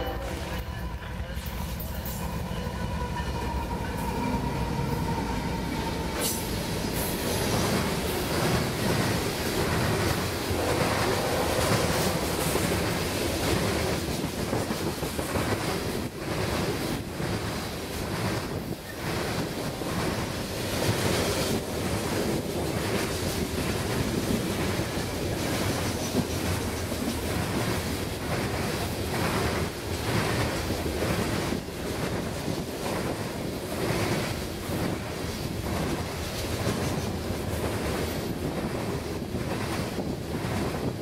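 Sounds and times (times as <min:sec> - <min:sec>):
train cars rushing past: 0:00.0 - 0:41.0
wind buffeting microphone: 0:00.4 - 0:41.0.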